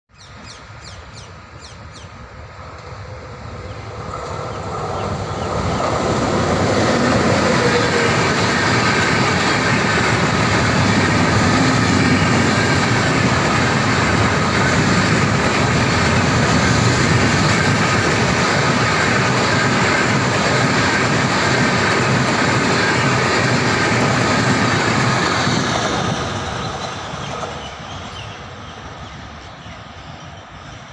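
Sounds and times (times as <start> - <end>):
express train passing: 0.2 - 30.9.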